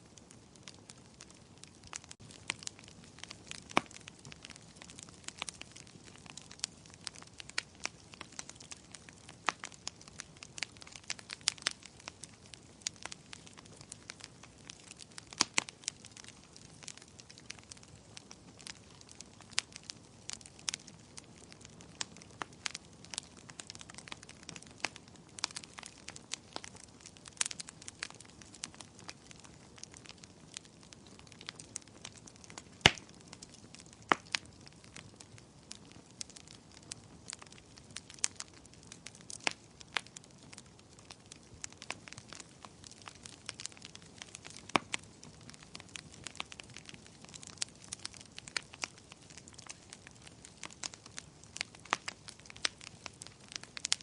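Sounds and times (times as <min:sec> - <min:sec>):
faint steady hiss: 0:00.0 - 0:54.0
fire crackling and popping: 0:00.0 - 0:54.0.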